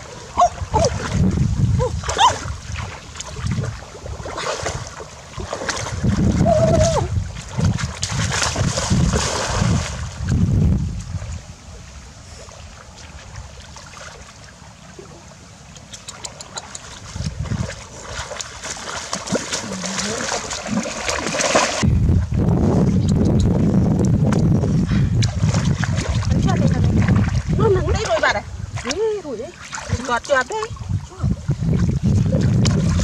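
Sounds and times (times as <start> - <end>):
splashing in muddy water: 0.0 - 11.5, 12.4 - 21.8, 24.2 - 33.0.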